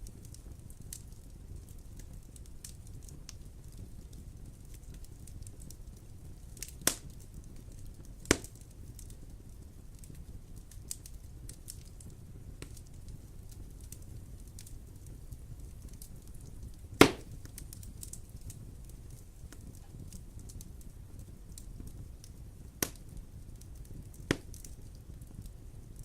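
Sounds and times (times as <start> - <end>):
wood fire crackling in fireplace: 0.0 - 26.0.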